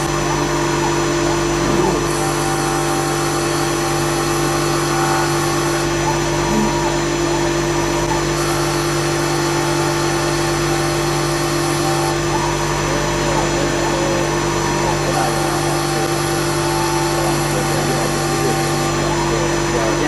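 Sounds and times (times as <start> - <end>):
wood lathe humming with whine: 0.0 - 20.0.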